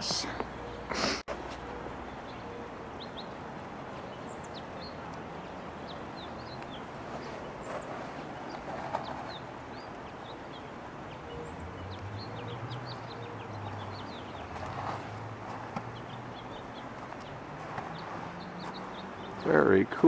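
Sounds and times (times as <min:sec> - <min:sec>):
small songbirds chirping: 0:00.0 - 0:20.0.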